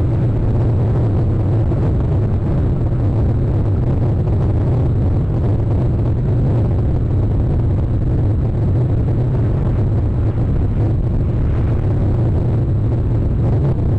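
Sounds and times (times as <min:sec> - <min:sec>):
steady low rumbling: 0:00.0 - 0:13.9.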